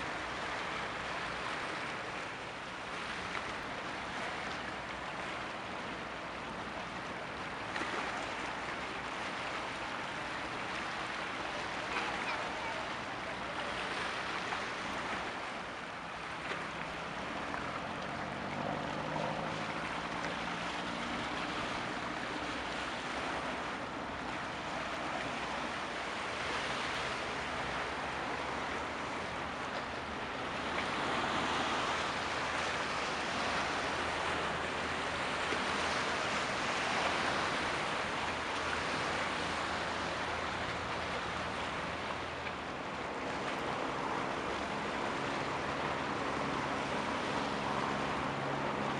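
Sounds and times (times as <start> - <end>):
rushing water: 0.0 - 48.9
wind: 0.0 - 48.9
faint engine hum: 0.1 - 48.9.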